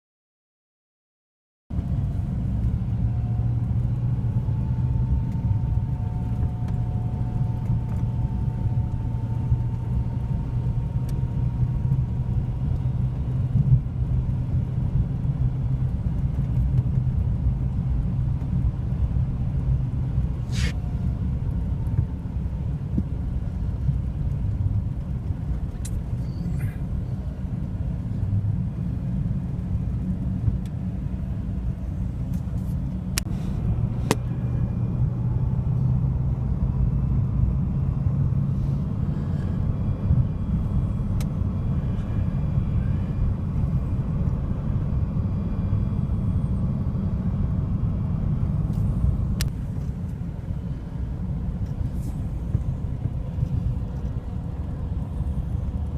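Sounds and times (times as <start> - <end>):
steady low rumble: 1.7 - 55.9.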